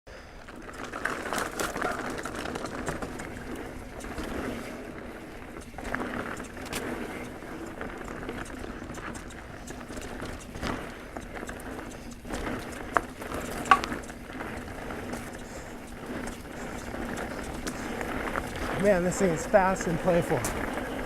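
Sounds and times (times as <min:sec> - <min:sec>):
bike clicking and rattling: 0:00.1 - 0:21.0
bike tyres on dirt trail: 0:00.1 - 0:21.0.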